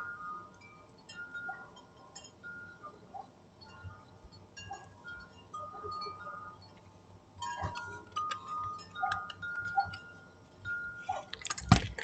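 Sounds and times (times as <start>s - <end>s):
wind chimes ringing: 0.0s - 11.6s.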